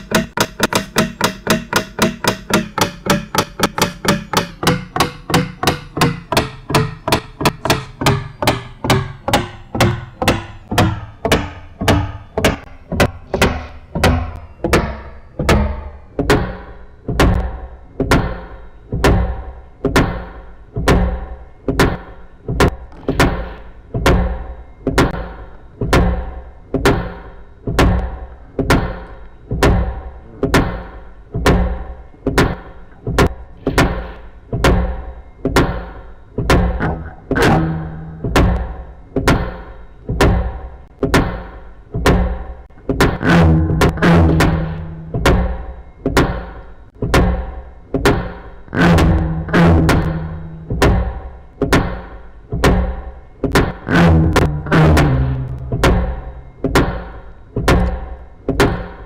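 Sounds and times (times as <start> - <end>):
sharp ringing knocks: 0.0 - 30.0, 36.5 - 59.0.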